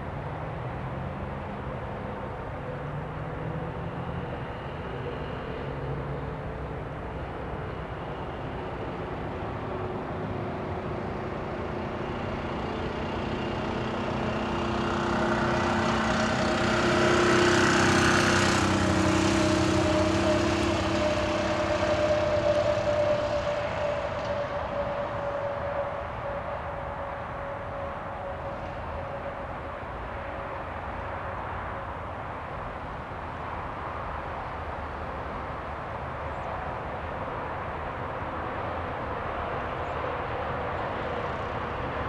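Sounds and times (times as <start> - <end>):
small car engine passing by: 0.8 - 42.0.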